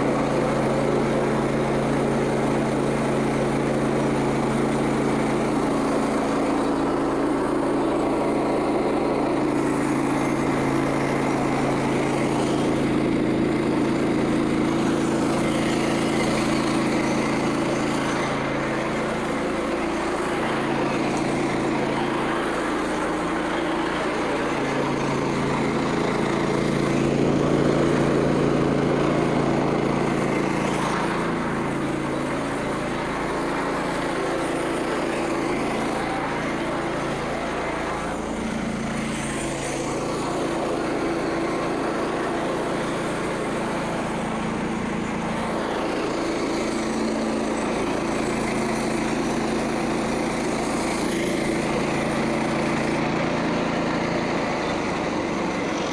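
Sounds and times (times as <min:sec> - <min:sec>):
small gasoline engine running: 0:00.0 - 0:55.9.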